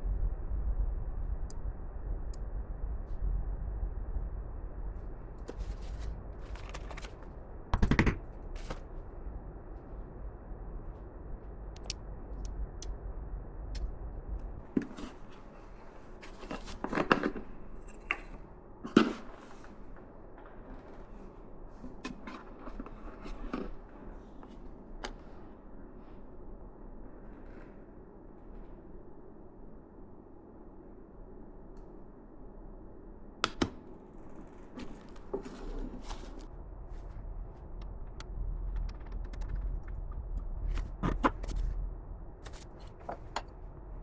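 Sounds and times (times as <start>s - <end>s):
low hum: 0.0s - 18.8s, 23.8s - 44.0s.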